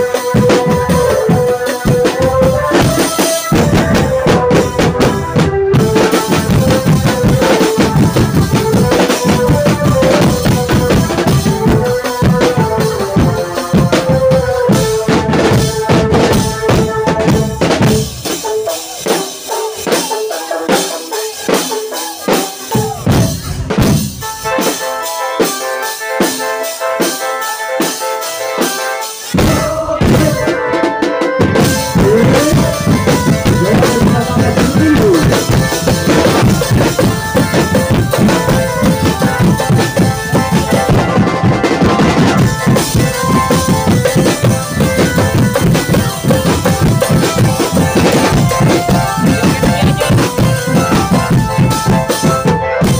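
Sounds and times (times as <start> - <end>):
bass drum beats: 0.0 - 18.7, 22.7 - 24.4, 29.4 - 30.7, 31.4 - 52.9
drum band playing: 0.0 - 52.9.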